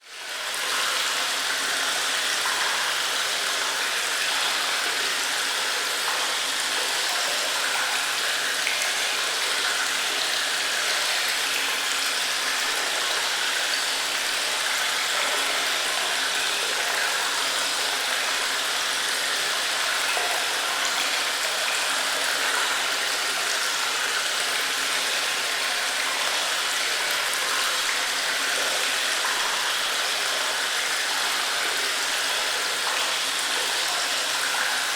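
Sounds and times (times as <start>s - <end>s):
running water in cave: 0.0s - 34.9s.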